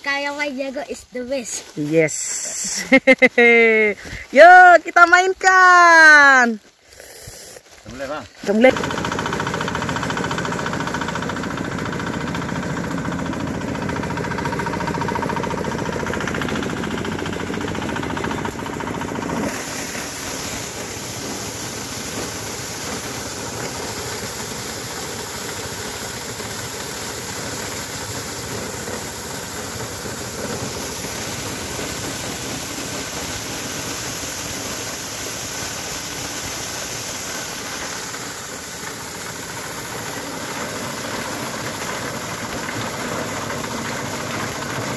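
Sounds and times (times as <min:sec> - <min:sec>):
engine-driven corn sheller running: 0:00.0 - 0:44.9.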